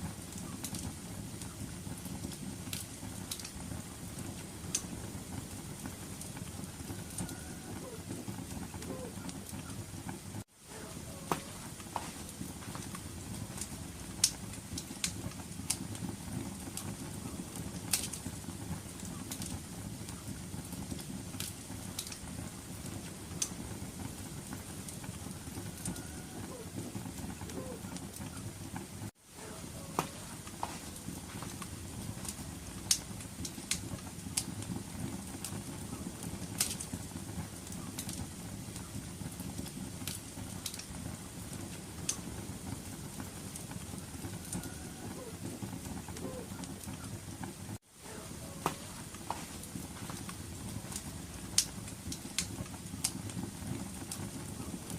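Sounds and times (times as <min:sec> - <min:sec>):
low rumble of flames: 0:00.0 - 0:54.9
wood fire crackling: 0:00.0 - 0:54.9.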